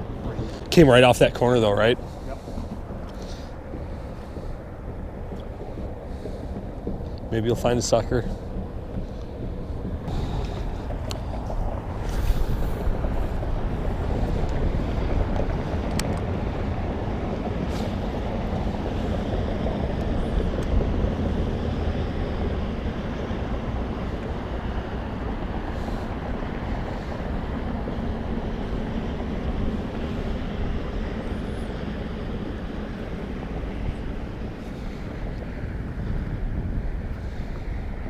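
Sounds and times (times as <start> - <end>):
wind rumbling on microphone: 0.0 - 38.0.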